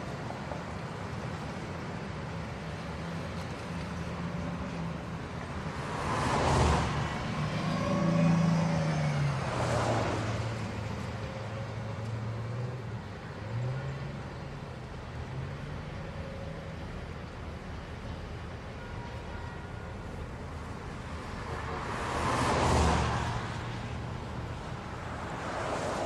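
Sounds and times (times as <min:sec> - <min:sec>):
cars passing with tyre noise: 0:00.0 - 0:26.0.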